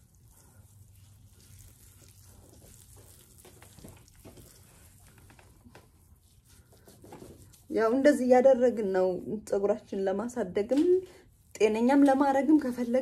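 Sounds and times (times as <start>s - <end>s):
wet squishing of hands in hair: 0.0s - 13.0s.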